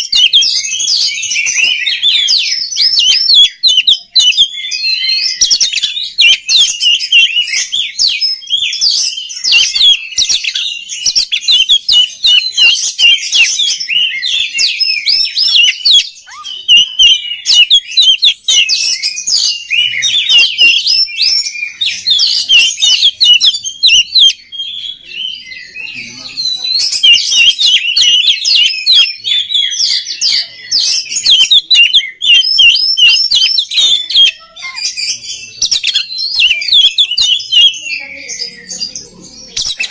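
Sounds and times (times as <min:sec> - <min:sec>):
bird singing high whistled notes: 0:00.0 - 0:39.9.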